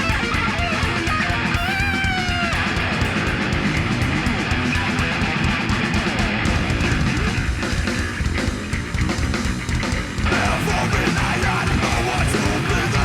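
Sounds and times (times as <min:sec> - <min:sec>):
bass guitar: 0:00.0 - 0:13.0
distorted electric guitar: 0:00.0 - 0:13.0
drum kit: 0:00.0 - 0:13.0.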